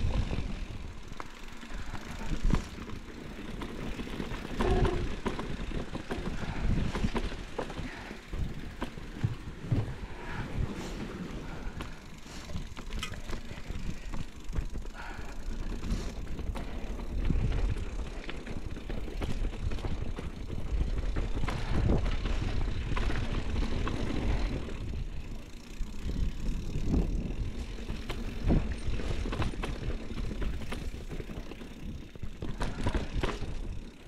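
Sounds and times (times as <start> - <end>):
bike rattling and clicking: 0.0 - 34.0
bike tyres rumbling on dirt: 0.0 - 34.0.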